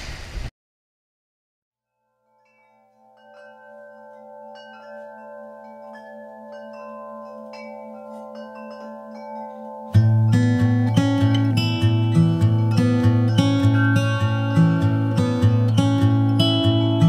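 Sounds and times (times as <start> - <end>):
chime-like bell tones: 2.0 - 17.0.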